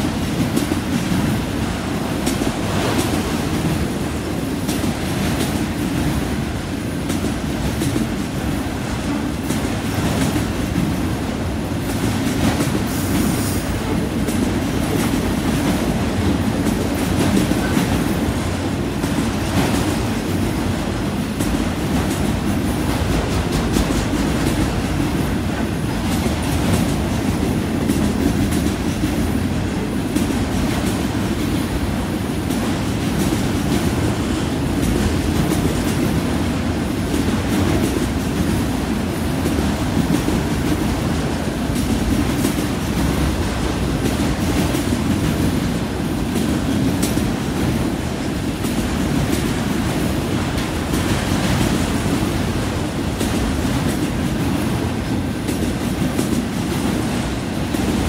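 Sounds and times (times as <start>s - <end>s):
rumble of steel wheels on rail: 0.0s - 58.0s.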